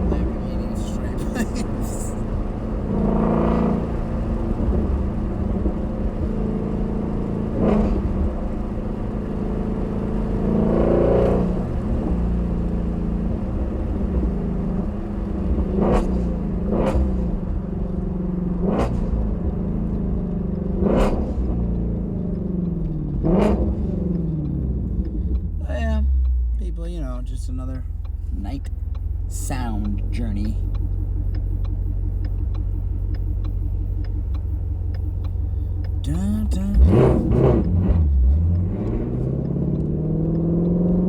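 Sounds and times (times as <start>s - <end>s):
exhaust pops and crackles: 0.0s - 18.2s, 18.8s - 41.0s
car engine running: 0.0s - 41.0s.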